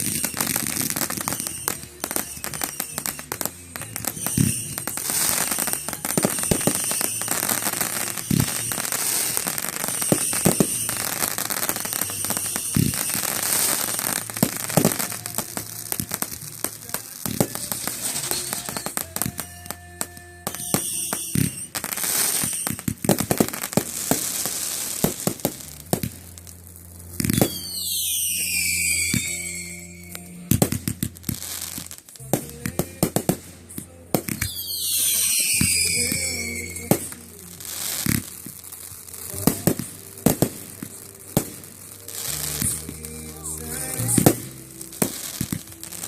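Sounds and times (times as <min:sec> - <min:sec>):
fireworks cracking and popping: 0:00.0 - 0:46.0
music playing: 0:00.0 - 0:46.0
whistling fireworks: 0:00.0 - 0:46.0.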